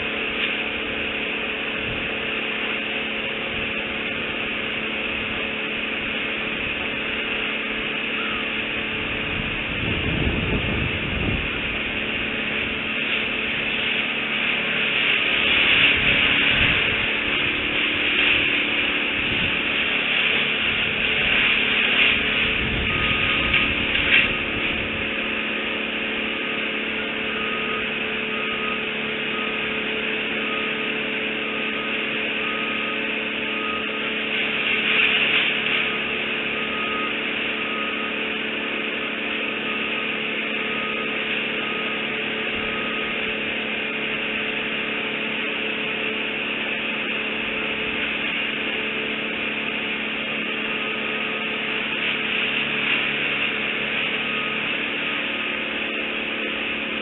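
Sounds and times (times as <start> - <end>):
mechanical drone with hum and hiss: 0.0 - 57.0.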